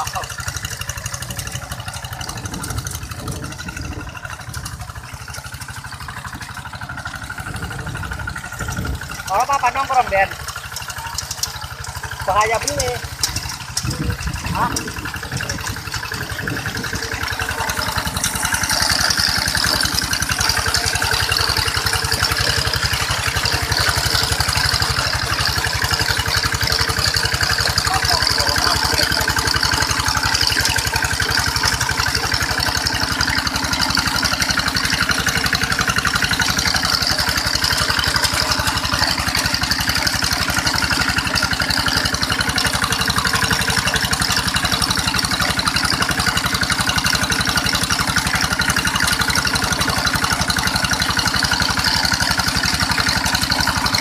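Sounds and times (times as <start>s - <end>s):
tractor engine running: 0.0s - 54.0s
wheels churning through mud: 0.0s - 54.0s.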